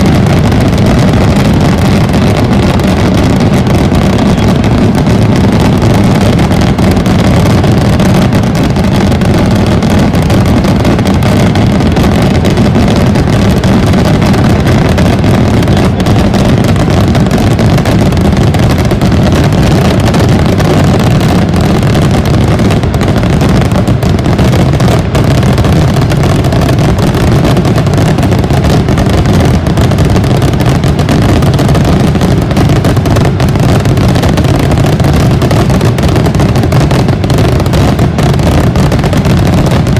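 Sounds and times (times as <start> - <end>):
rockets bursting and whooshing: 0.0 - 39.9.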